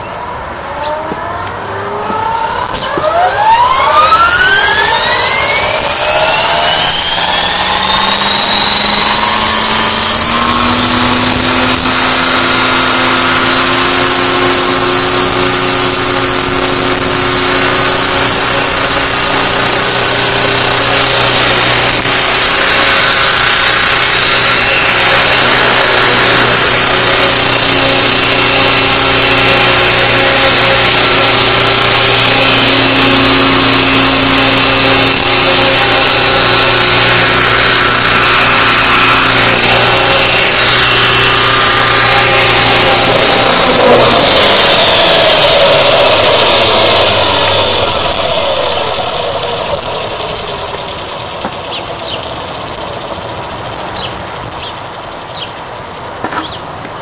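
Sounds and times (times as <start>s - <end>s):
helicopter motor whine: 0.0s - 55.4s
rotor blades beating: 0.0s - 56.0s.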